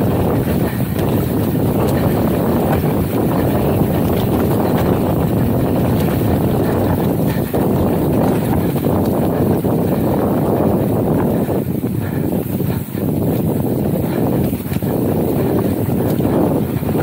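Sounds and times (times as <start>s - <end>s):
bike knocks and rattles: 0.0s - 17.0s
bike tyres rolling over sandy dirt: 0.0s - 17.0s
wind buffeting microphone: 0.0s - 17.0s.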